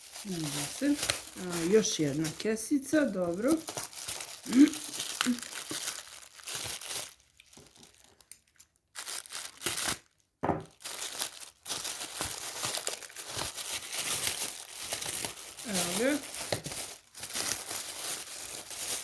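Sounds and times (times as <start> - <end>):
plastic bag crinkling and rustling: 0.0 - 19.0.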